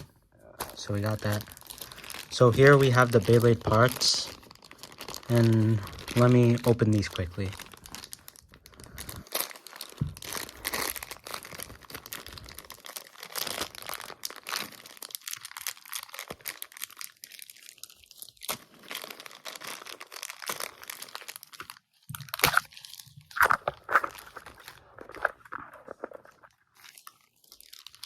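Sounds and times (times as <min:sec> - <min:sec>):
plastic packaging crinkling: 0:00.0 - 0:28.0.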